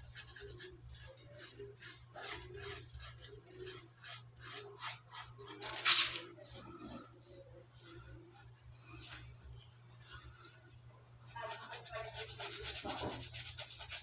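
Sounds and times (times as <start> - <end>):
paintbrush rasping on wall: 0.0 - 10.6, 11.3 - 14.0.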